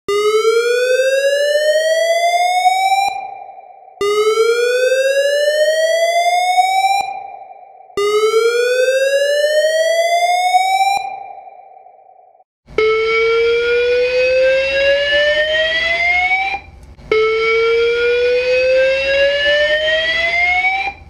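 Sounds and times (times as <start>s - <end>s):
fire alarm whoop tone: 0.1s - 21.0s.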